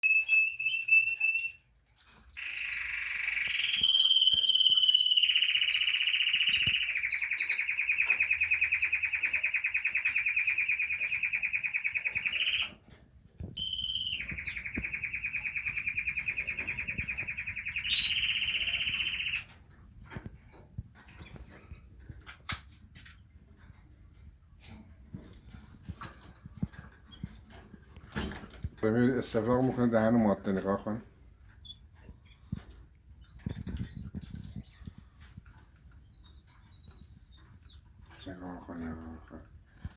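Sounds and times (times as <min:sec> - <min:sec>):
canary singing trills: 0:00.0 - 0:13.0, 0:13.6 - 0:22.3, 0:25.2 - 0:39.9.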